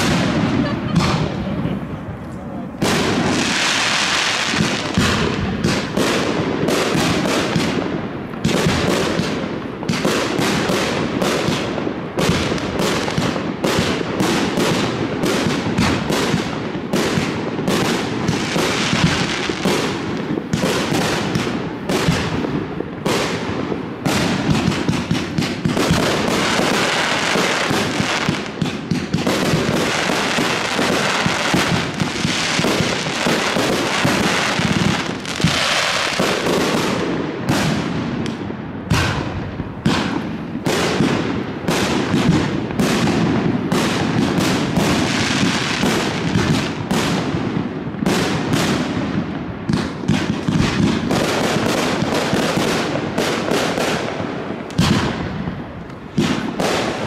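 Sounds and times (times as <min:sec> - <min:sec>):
firework cake firing shots: 0:00.0 - 0:02.0, 0:02.7 - 0:57.0.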